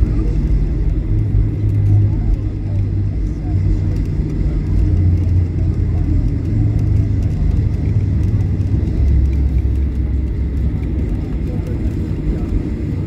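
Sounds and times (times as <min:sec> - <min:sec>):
jet engines idling in cabin: 0:00.0 - 0:13.0.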